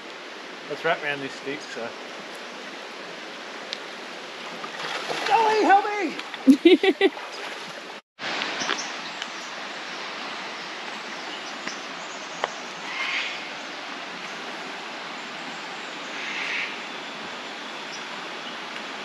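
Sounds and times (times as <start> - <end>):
creek flowing: 0.0 - 19.0.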